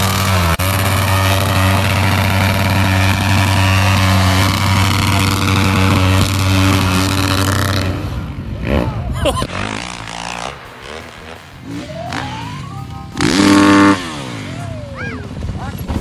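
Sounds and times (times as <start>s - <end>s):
dirt bike engine revving high: 0.0s - 15.5s.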